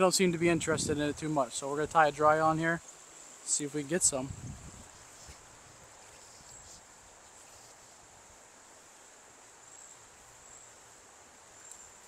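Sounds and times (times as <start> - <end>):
soft background hiss: 0.0 - 12.0
high-pitched insect trill: 2.3 - 12.0.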